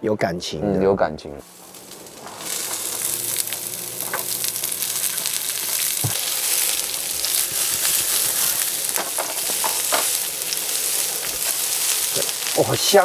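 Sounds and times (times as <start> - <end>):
onions sizzling in a pan: 1.4 - 13.0.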